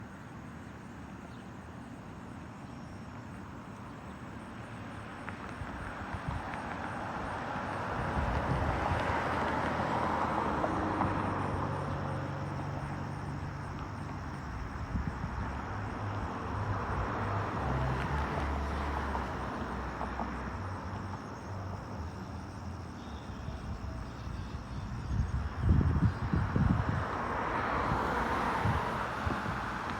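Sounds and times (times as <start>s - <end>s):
road traffic hiss: 0.0s - 29.9s.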